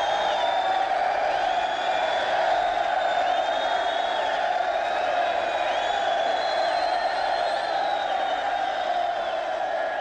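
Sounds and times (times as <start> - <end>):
crowd of men cheering: 0.0 - 10.0.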